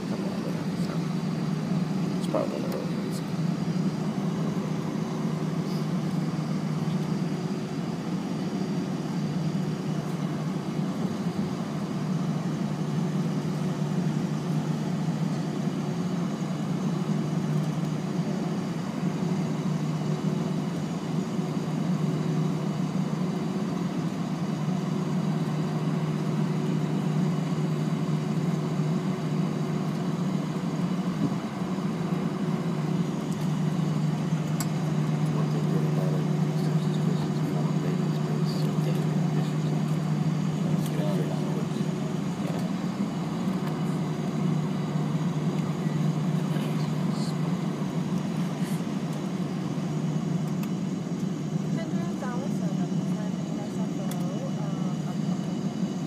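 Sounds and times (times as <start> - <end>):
aircraft cabin engine hum: 0.0 - 56.0.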